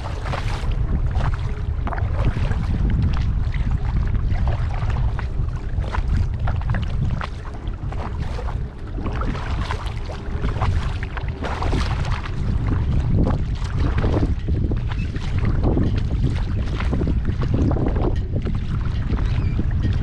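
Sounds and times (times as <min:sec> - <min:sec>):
paddle splashing in water: 0:00.0 - 0:20.0
wind on microphone: 0:00.0 - 0:20.0.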